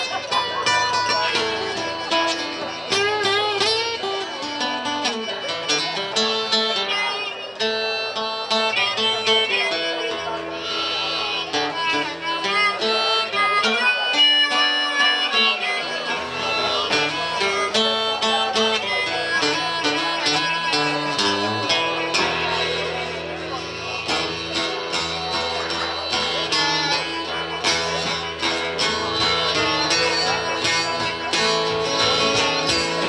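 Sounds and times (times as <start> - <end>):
acoustic guitar: 0.0 - 33.0.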